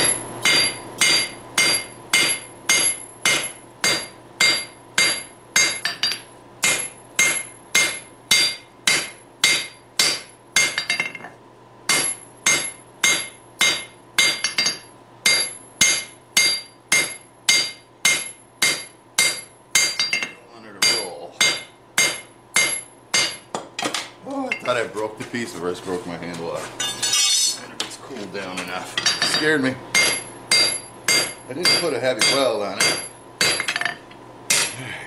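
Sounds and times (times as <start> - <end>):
hammer striking steel on anvil: 0.0 - 11.3, 11.9 - 24.0, 29.0 - 34.8.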